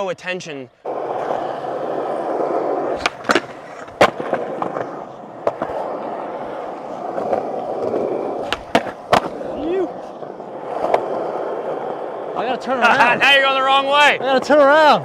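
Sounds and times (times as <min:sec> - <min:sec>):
skateboard clacks: 0:00.8 - 0:13.6
skateboard wheels rolling on asphalt: 0:00.8 - 0:15.0.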